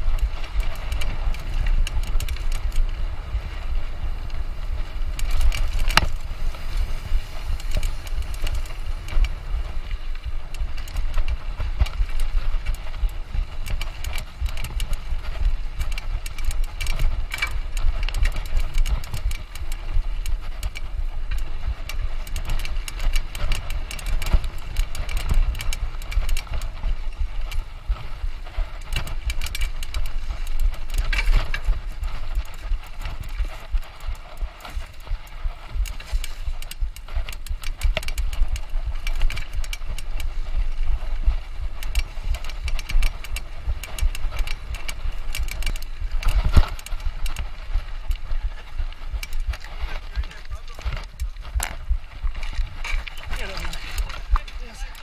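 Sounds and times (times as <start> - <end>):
mountain bike rattling: 0.0 - 55.0.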